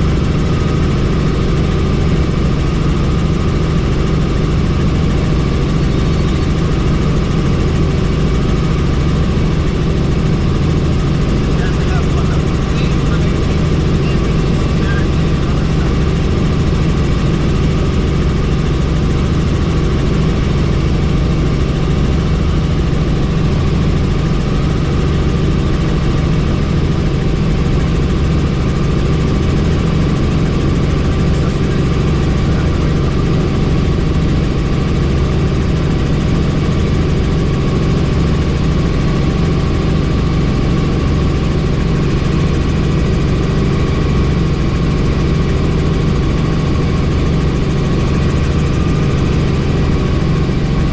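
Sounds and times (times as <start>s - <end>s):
helicopter rotor and turbine drone: 0.0s - 50.9s.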